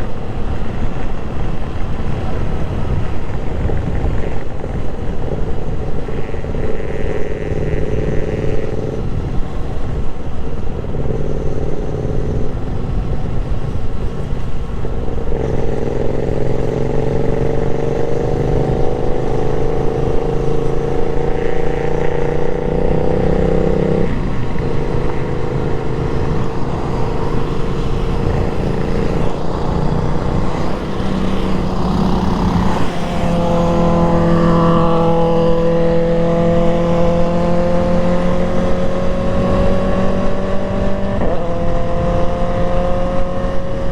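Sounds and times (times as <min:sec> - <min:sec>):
motorcycle engine revving: 0:00.0 - 0:43.9
wind noise on microphone: 0:00.0 - 0:43.9.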